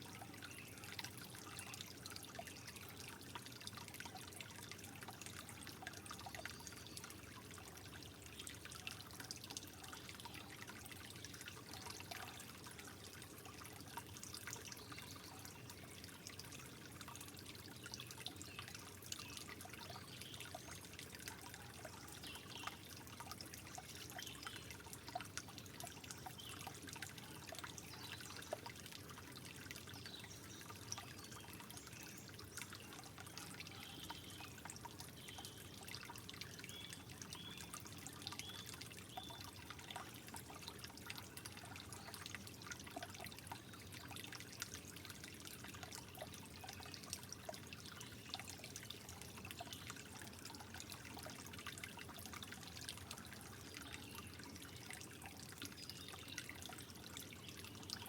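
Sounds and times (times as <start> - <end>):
water drips and plinks: 0.0 - 58.0
water trickling: 0.0 - 58.0.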